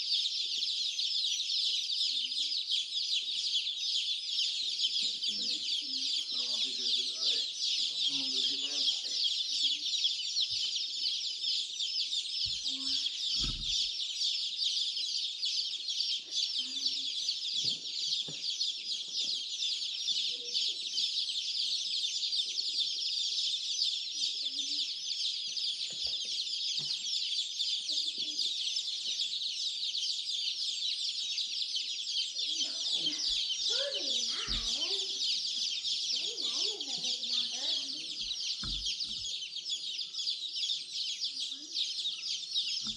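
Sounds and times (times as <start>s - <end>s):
baby chicks peeping: 0.0s - 42.9s.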